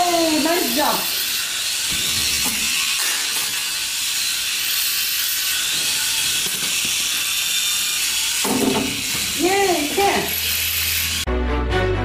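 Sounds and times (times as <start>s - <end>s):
toy motorbike motor whirring: 0.0s - 11.3s.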